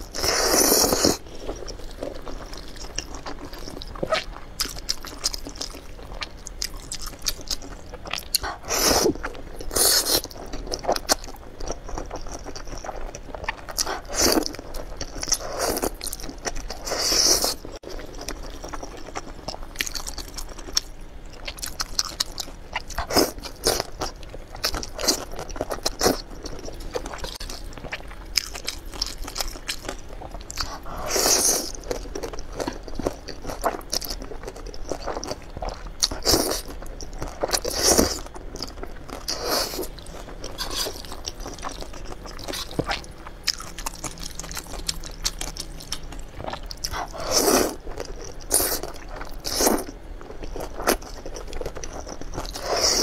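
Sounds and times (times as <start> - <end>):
chewing noodles: 0.0 - 53.0.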